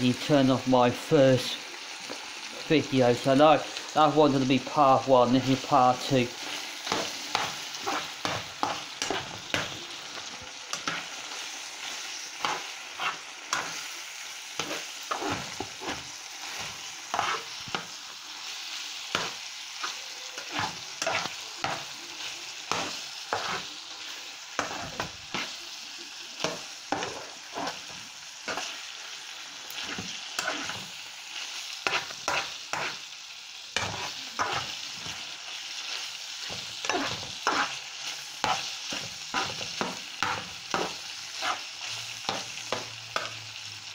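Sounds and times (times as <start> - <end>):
meat sizzling in a frying pan: 0.0 - 43.9
spatula scraping a pan: 5.4 - 25.6, 26.4 - 33.1, 33.8 - 43.4.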